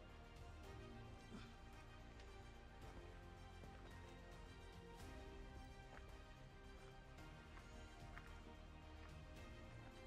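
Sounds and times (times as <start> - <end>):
faint music of held notes: 0.0 - 10.0.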